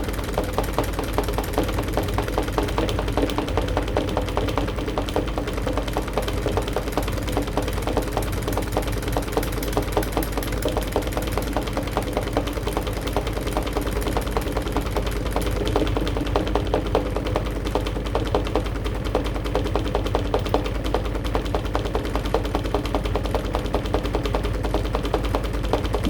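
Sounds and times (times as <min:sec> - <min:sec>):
washing machine knocking and clatter: 0:00.0 - 0:26.0.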